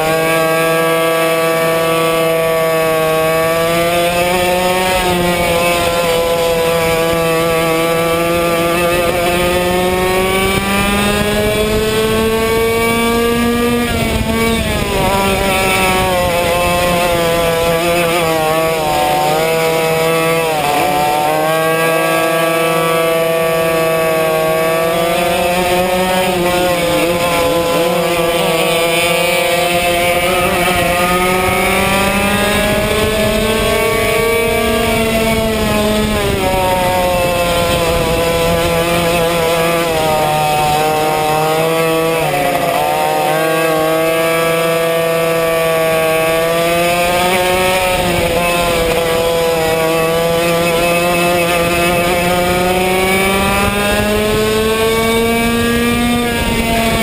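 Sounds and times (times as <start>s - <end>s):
kart engine at full throttle: 0.0s - 57.0s.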